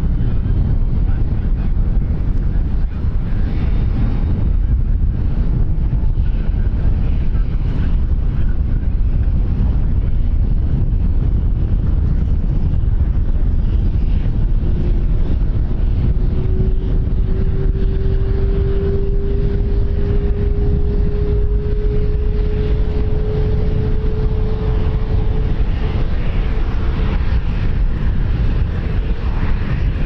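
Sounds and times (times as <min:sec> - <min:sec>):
distant aircraft engine: 0:00.0 - 0:30.0
wind buffeting microphone: 0:00.0 - 0:30.0.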